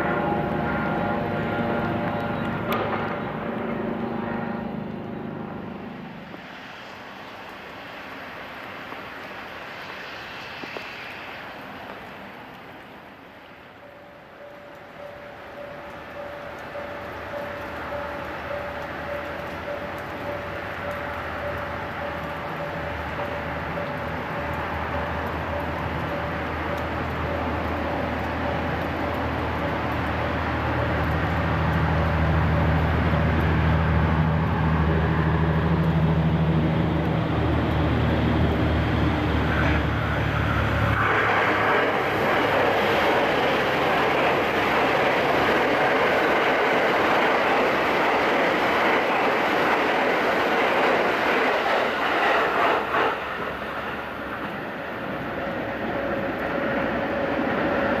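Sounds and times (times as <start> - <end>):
low steady train hum: 0.0 - 58.0
train rushing and rail noise: 0.0 - 58.0.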